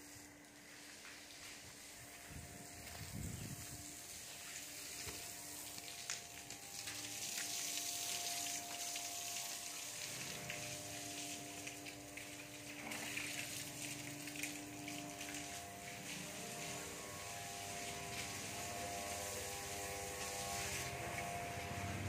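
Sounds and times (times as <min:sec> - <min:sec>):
hose spraying water on tiles: 0:00.0 - 0:22.0.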